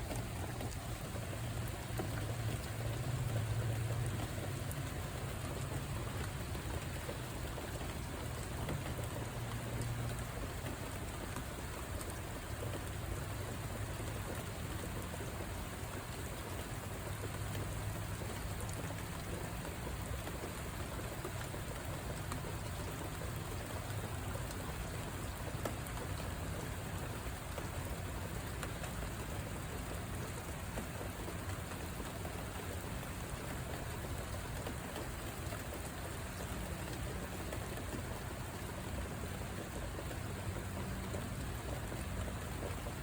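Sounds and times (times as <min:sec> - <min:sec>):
steady rainfall: 0:00.0 - 0:43.0.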